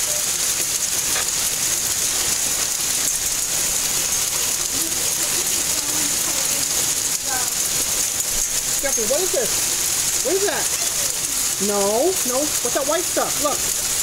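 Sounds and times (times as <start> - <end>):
hail and rain pattering: 0.0 - 14.0.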